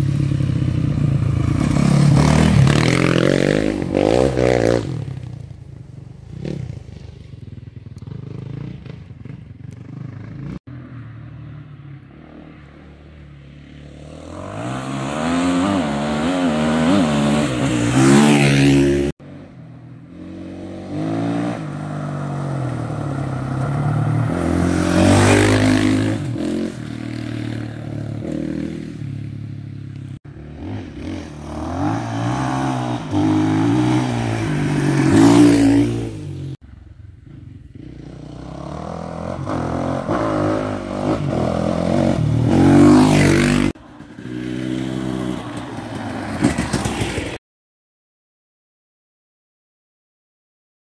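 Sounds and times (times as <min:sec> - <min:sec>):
motorcycles passing revving: 0:00.0 - 0:47.4.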